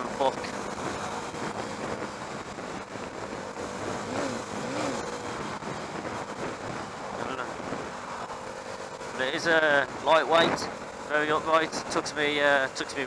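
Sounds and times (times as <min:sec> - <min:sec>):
rushing wind noise: 0:00.0 - 0:12.0
motorcycle engine running steadily: 0:00.0 - 0:13.0.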